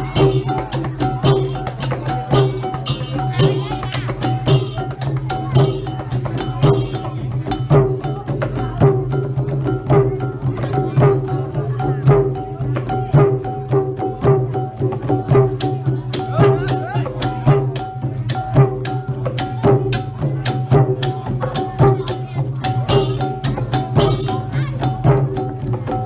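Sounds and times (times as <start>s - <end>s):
drums and percussion beat: 0.0s - 26.0s
sharp high percussion strikes: 0.0s - 26.0s.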